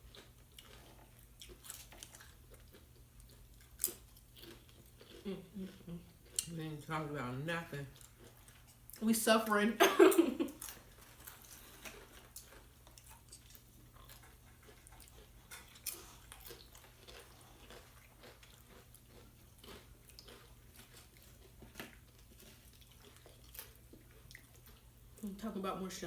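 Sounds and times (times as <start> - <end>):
person chewing crunchy chips: 0.0 - 6.8, 7.8 - 9.0, 10.5 - 25.2.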